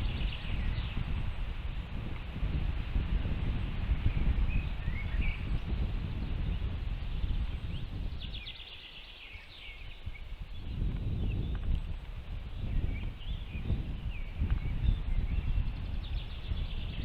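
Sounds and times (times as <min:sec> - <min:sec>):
small birds chirping: 0:00.0 - 0:02.2, 0:03.3 - 0:17.0.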